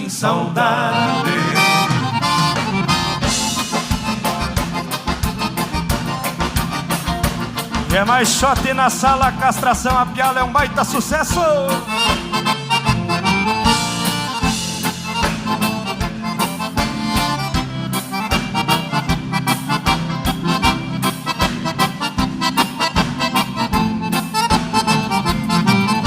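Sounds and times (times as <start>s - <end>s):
accordion melody: 0.0s - 26.0s
bass: 0.0s - 26.0s
steady drum beat: 1.2s - 26.0s.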